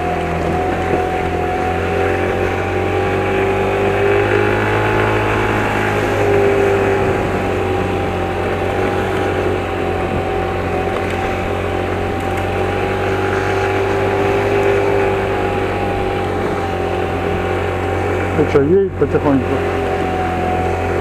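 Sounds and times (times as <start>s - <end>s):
mini motorcycle engine running: 0.0s - 21.0s.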